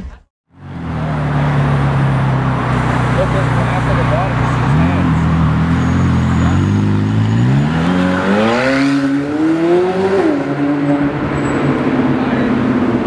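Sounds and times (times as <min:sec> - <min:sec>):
car engine accelerating: 0:00.5 - 0:13.0.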